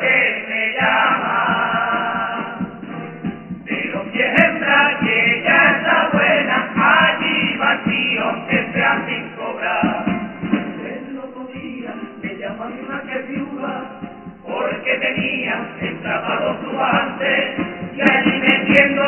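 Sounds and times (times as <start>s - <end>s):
male chorus singing in unison: 0.0s - 3.0s, 3.6s - 19.0s
acoustic guitars: 0.0s - 19.0s.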